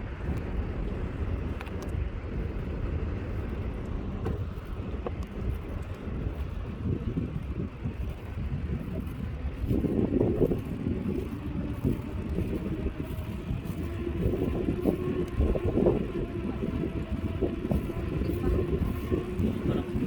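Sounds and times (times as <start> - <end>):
road traffic rumble: 0.0 - 20.0
wind noise on microphone: 0.0 - 20.0.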